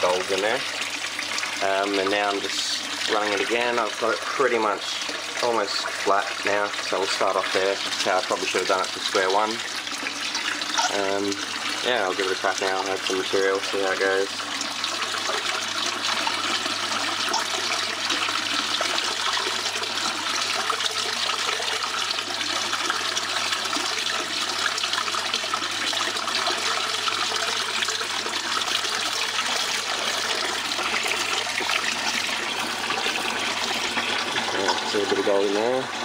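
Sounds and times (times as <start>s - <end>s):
water running across table: 0.0s - 36.0s.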